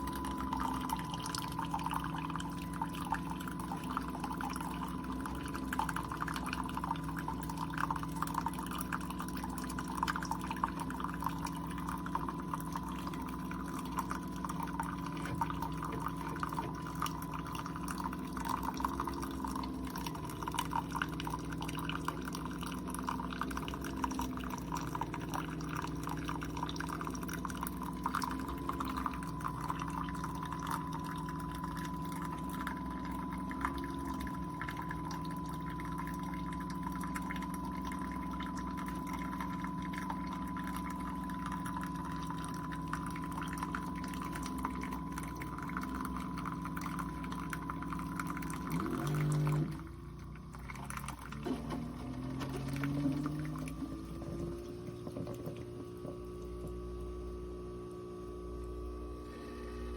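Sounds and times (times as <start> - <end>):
coffee dripping into mug: 0.0 - 59.9
coffee maker pump humming: 0.0 - 59.9.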